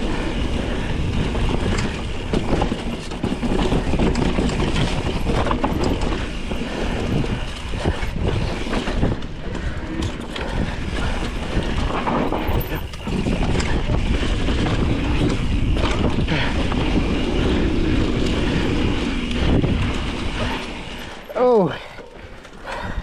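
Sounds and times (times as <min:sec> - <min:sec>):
bike tyres on dirt trail: 0:00.0 - 0:22.9
bike rattling and knocking: 0:01.1 - 0:09.5, 0:11.6 - 0:22.9.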